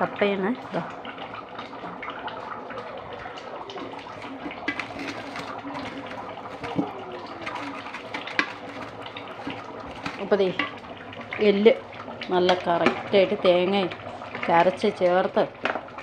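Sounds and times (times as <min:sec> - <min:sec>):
pot boiling: 0:00.0 - 0:16.0.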